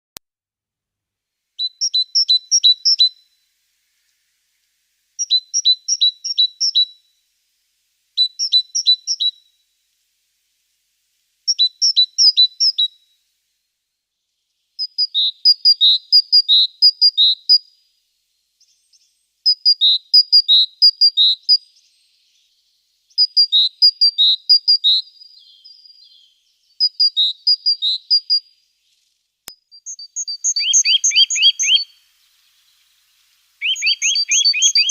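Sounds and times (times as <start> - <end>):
small songbird singing: 1.6 - 10.0, 10.6 - 34.9.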